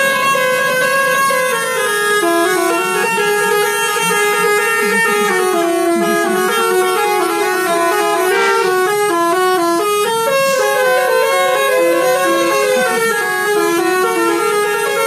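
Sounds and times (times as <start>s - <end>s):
multi-tone bus air horn melody: 0.0s - 15.0s.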